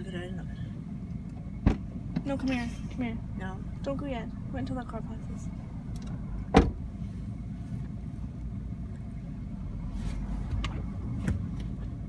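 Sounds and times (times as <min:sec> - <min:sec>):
car rumbling: 0:00.0 - 0:12.0.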